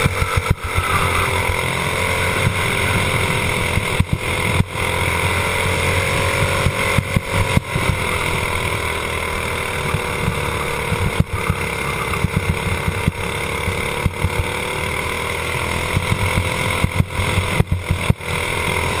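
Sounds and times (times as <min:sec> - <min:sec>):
kart engine running hard: 0:00.0 - 0:19.0.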